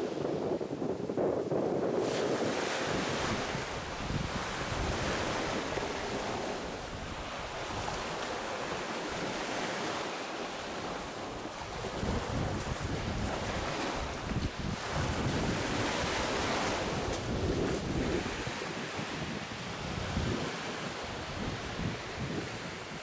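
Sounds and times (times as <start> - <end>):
wind buffeting microphone: 0.0 - 23.0
waves on shingle beach: 1.9 - 23.0.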